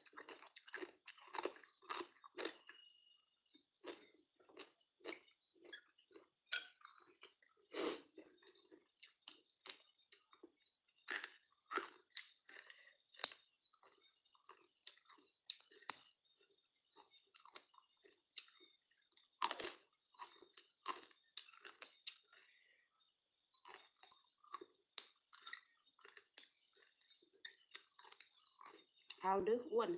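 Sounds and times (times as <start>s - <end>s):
person chewing food: 0.0s - 29.2s.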